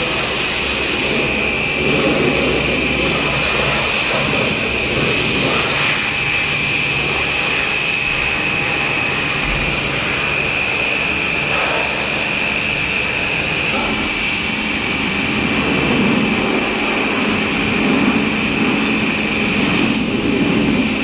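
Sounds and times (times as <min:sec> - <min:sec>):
machine whine: 0:00.0 - 0:21.0.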